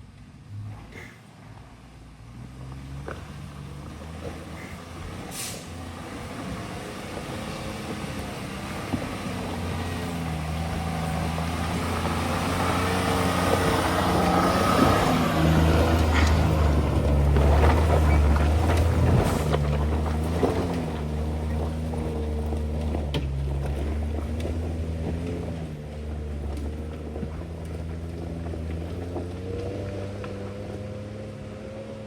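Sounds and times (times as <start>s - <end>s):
truck engine running under load: 0.0s - 32.0s.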